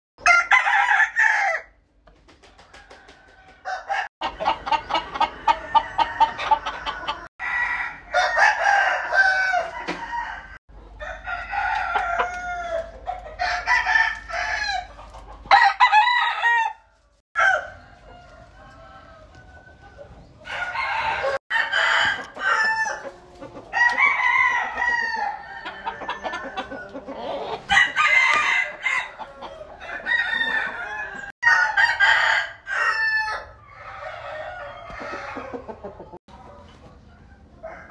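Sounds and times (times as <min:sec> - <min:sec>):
roosters crowing: 0:00.2 - 0:01.8, 0:02.5 - 0:36.2, 0:37.4 - 0:37.9.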